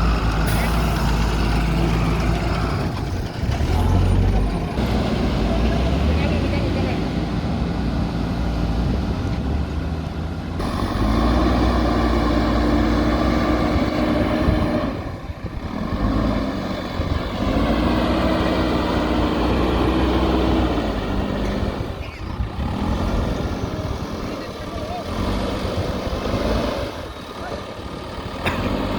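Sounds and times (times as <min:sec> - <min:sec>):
diesel engine revving: 0:00.0 - 0:28.9.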